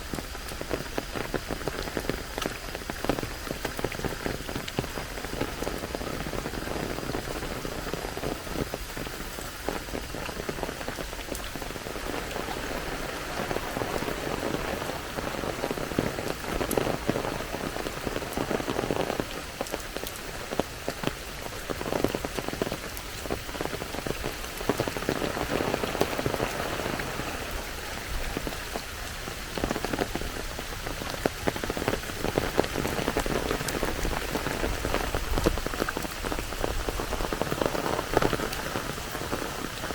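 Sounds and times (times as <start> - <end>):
raindrops ticking close by: 0.0 - 39.9
steady rain hiss: 0.0 - 39.9.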